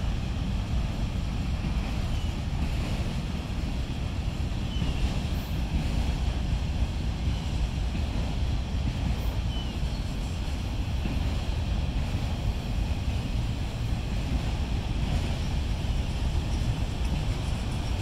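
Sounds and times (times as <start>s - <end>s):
freight train rumbling past: 0.0s - 18.0s
wind buffeting microphone: 0.0s - 18.0s.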